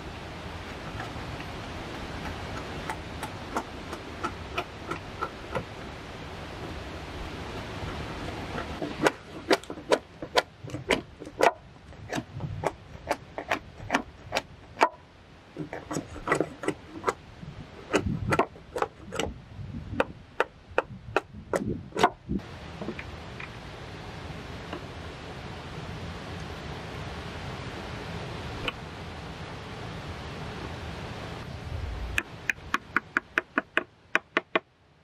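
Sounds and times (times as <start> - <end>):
steady rushing noise: 0.0 - 33.2.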